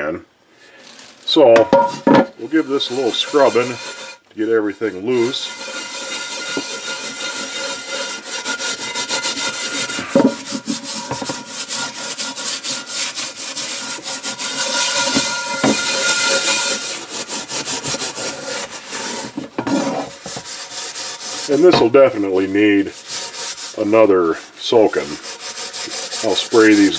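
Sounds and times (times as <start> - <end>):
steel wool scrubbing a skillet: 1.3 - 26.9.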